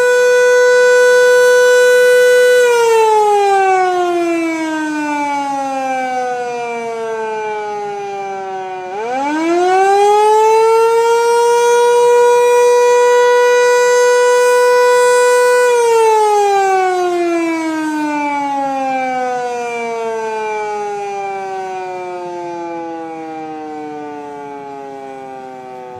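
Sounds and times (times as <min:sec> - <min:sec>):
siren wailing: 0:00.0 - 0:25.9.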